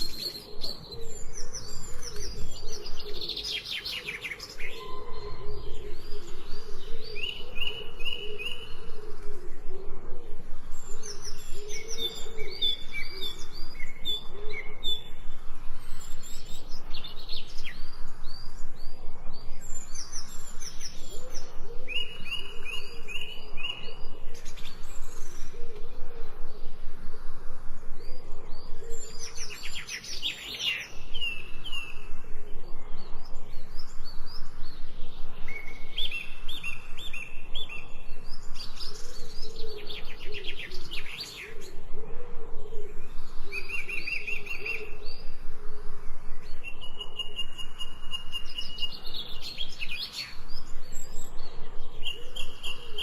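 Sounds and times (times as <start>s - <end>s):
birds chirping and singing: 0.0s - 53.0s.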